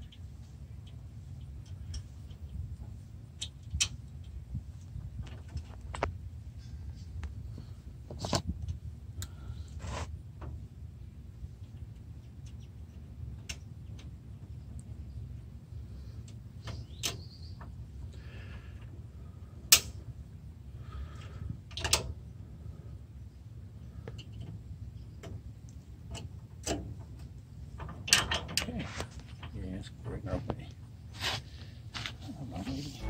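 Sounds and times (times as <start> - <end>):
low background rumble: 0.0 - 28.7, 29.3 - 33.0.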